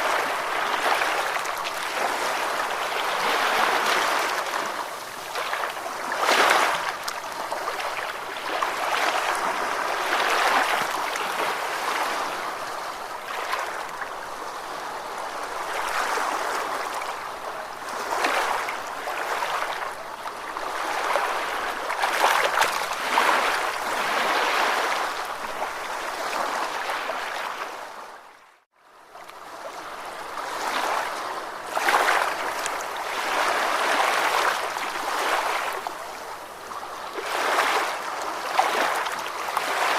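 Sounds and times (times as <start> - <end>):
ocean waves breaking: 0.0 - 28.1, 29.4 - 39.9.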